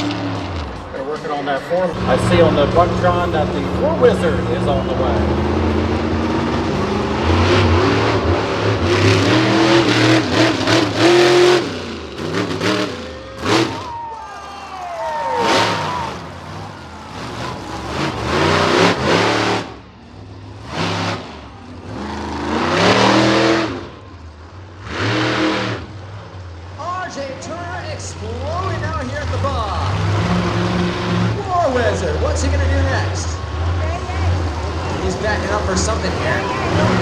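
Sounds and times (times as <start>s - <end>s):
truck engine revving: 0.0s - 14.0s, 15.1s - 37.0s.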